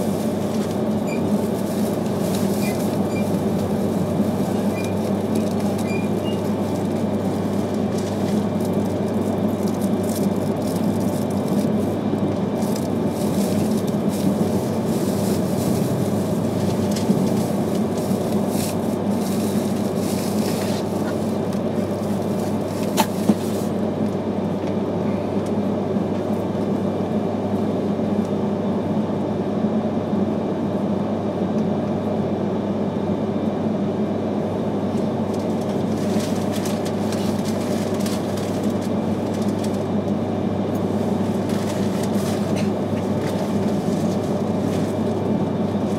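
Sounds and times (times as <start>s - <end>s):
train wheels rumbling on rail: 0.0s - 28.4s, 34.9s - 45.9s.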